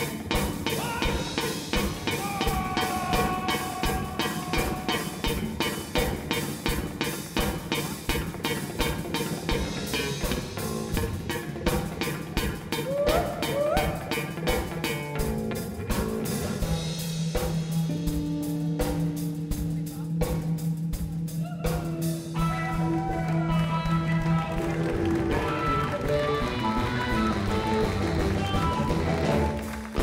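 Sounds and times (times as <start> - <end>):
drum kit beat: 0.0 - 30.0
electric guitars: 0.0 - 30.0.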